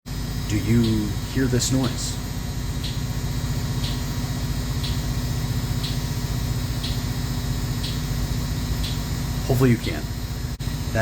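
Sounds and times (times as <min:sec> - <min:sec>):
low hum of ship machinery: 0:00.1 - 0:11.0.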